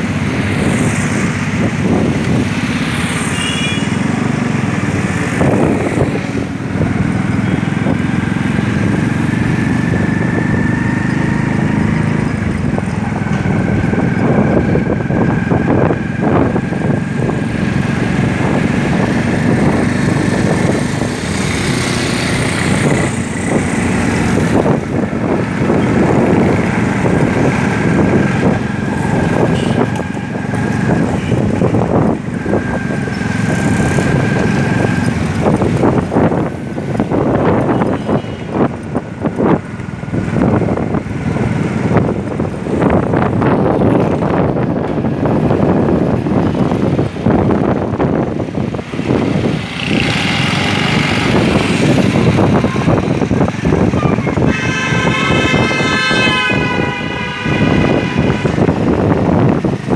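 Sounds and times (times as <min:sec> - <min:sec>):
road noise: 0:00.0 - 0:59.9.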